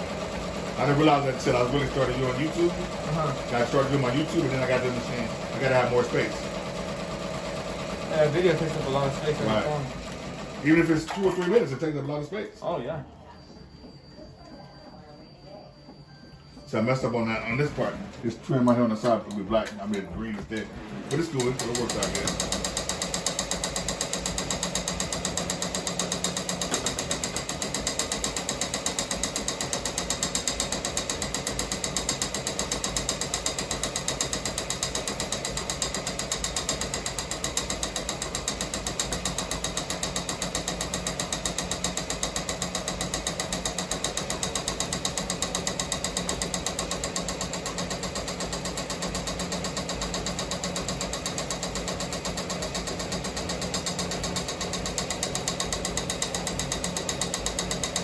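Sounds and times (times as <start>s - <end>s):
embroidery machine stitching: 0.0s - 11.8s, 17.4s - 58.0s.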